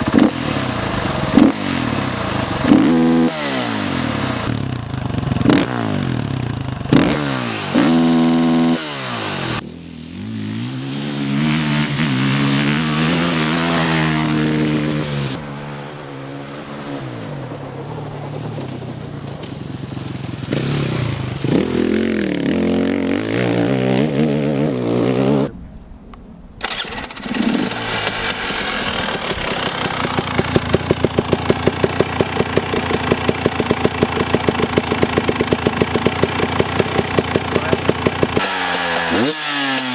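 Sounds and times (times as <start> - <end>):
dirt bike idling: 0.0 - 15.9, 17.6 - 25.5, 26.6 - 39.9
dirt bike engine revving: 0.0 - 25.5, 26.6 - 39.9.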